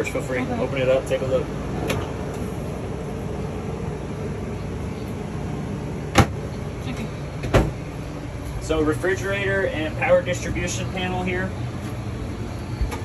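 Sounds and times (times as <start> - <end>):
air conditioner running: 0.0 - 13.0.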